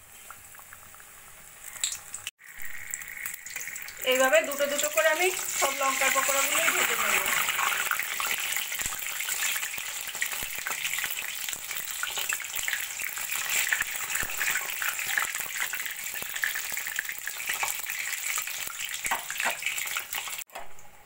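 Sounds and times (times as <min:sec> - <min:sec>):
deep-frying sizzle and crackle: 0:00.0 - 0:20.9.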